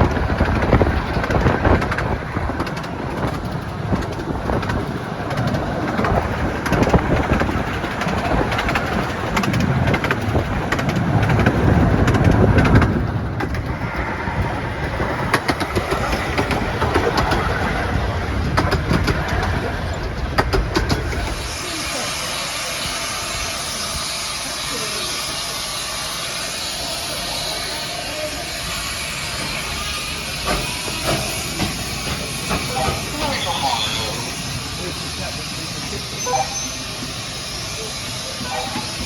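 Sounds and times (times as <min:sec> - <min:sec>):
miniature steam train running: 0:00.0 - 0:39.0
train wheels clicking: 0:00.0 - 0:39.0.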